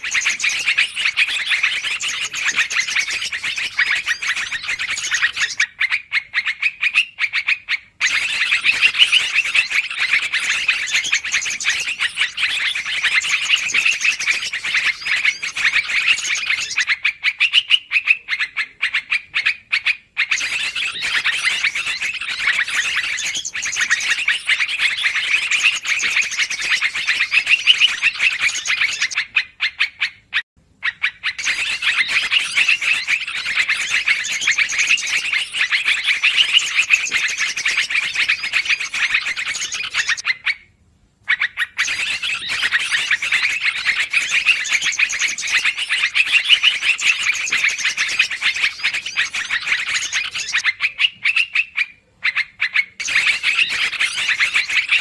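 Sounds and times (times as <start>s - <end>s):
bulbul chattering call: 0.0s - 30.1s, 30.8s - 40.4s, 41.3s - 55.0s.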